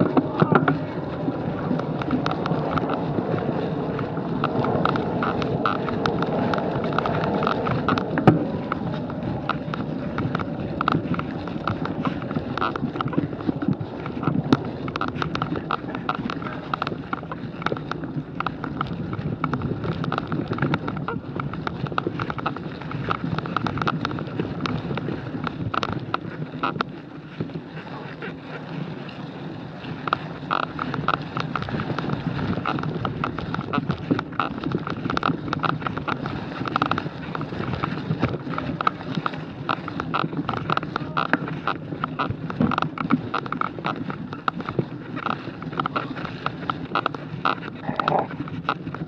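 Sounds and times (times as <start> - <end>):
camera mount ticks and jolts: 0.0 - 28.4, 29.8 - 49.0
wind on microphone: 0.0 - 49.0.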